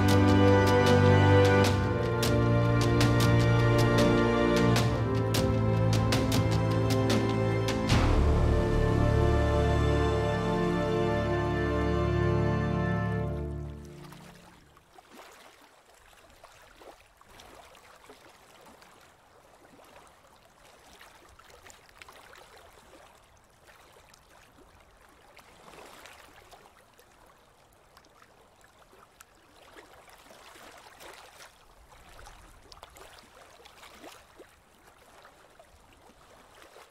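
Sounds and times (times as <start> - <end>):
small waves lapping: 0.0 - 36.9.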